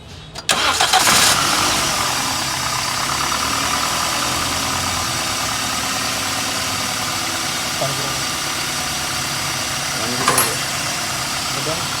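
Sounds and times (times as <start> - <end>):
petrol engine idling: 0.3 - 12.0.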